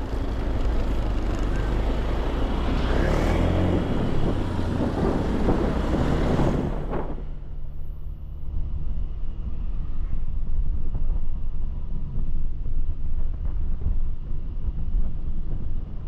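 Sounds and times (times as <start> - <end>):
vehicle driving on road: 0.0 - 16.0
wind buffeting microphone: 0.0 - 16.0.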